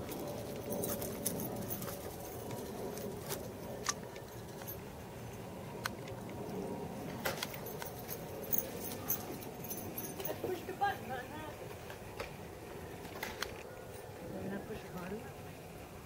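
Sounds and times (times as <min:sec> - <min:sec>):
low rumble and hiss: 0:00.0 - 0:16.0.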